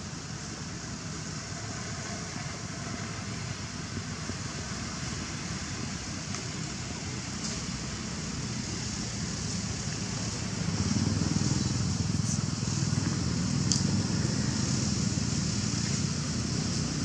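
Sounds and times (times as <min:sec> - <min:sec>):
constant high hiss: 0:00.0 - 0:17.0.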